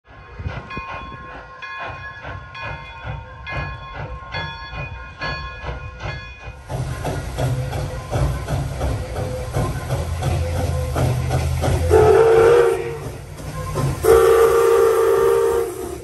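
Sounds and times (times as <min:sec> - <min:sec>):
steam locomotive running: 0:00.0 - 0:16.0
locomotive bell ringing: 0:00.1 - 0:15.4.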